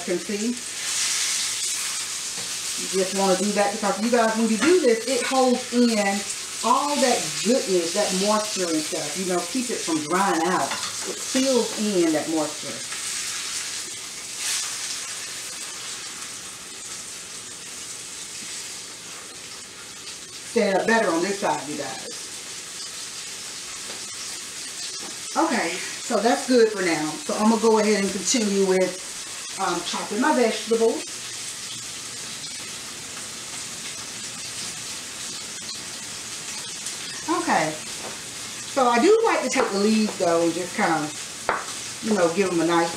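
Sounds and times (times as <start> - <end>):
meat sizzling in a skillet: 0.0 - 42.9.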